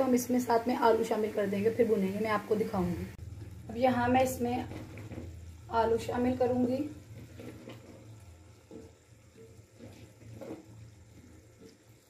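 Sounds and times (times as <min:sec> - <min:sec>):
curry bubbling: 0:00.0 - 0:12.0.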